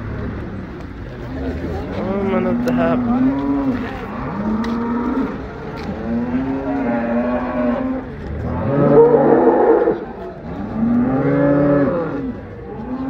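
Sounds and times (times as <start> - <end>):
cattle mooing: 2.5 - 13.0.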